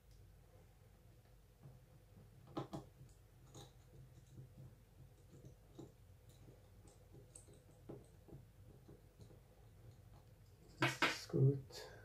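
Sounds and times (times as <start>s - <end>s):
small clicks and light taps: 1.2s - 11.2s.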